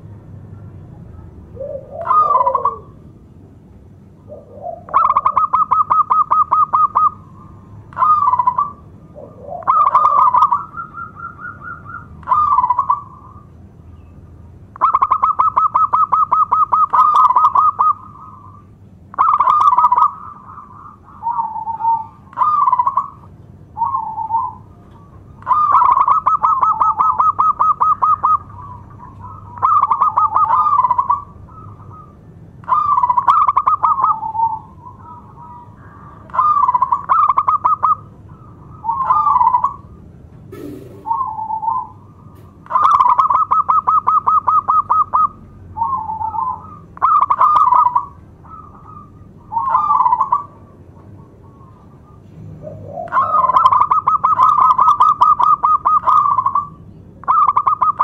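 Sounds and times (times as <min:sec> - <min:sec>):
dove cooing: 0:01.3 - 0:03.2, 0:04.2 - 0:13.5, 0:14.8 - 0:58.0.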